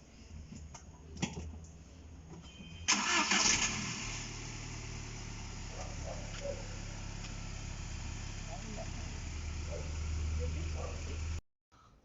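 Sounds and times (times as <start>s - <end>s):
car engine cranking and idling: 0.6s - 11.4s.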